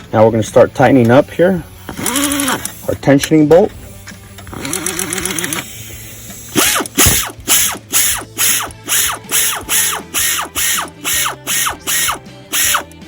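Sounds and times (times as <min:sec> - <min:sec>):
ratchet wrench clicking: 0:01.8 - 0:03.4, 0:04.0 - 0:13.0.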